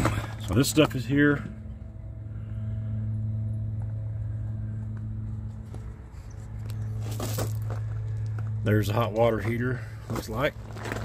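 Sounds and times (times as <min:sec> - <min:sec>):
engine idling with steady hum: 0:00.0 - 0:11.0.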